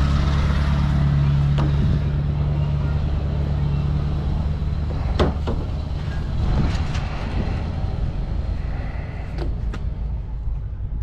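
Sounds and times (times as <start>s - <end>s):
motorboat engine humming: 0.0s - 11.0s.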